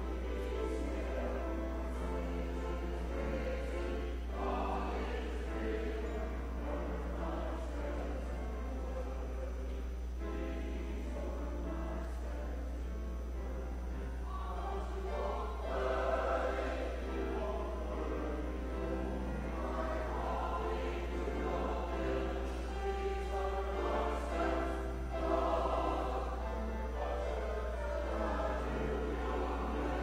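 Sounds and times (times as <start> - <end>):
church choir singing: 0.0 - 30.0.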